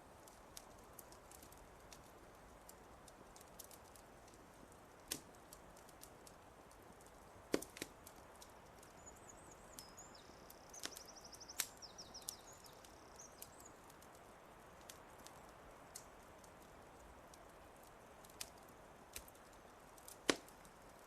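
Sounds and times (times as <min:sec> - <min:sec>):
soft steady hiss: 0:00.0 - 0:21.0
wood fire crackling: 0:00.0 - 0:21.0.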